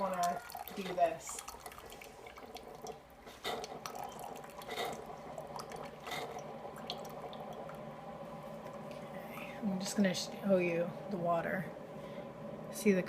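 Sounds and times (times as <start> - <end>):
water streaming into a mug: 0.0 - 12.8
coffee brewer pump humming: 0.0 - 13.0.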